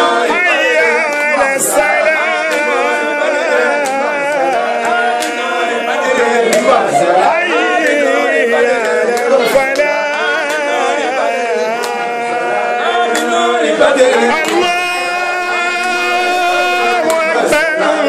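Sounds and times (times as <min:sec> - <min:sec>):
men singing without instruments: 0:00.0 - 0:18.0.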